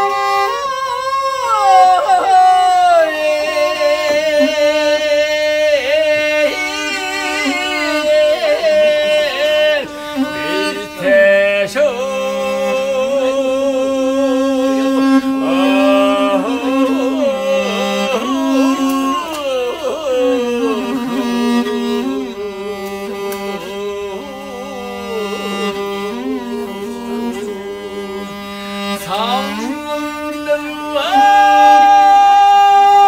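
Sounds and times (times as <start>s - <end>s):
bowed fiddle sustaining low notes: 0.0s - 33.0s
man singing long held notes: 0.0s - 33.0s.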